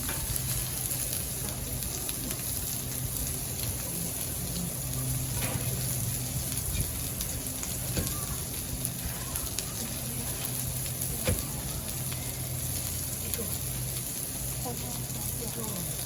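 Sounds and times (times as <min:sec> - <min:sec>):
sizzling on a griddle: 0:00.0 - 0:16.0.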